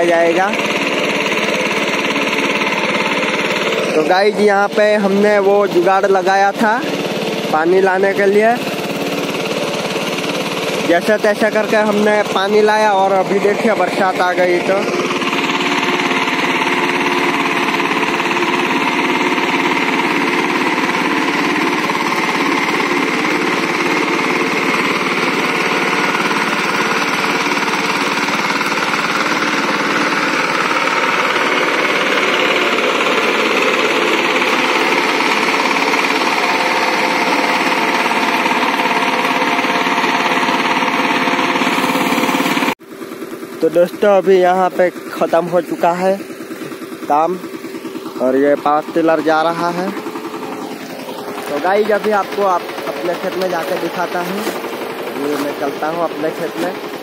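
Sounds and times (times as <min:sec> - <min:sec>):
power tiller diesel engine running: 0:00.0 - 0:57.0.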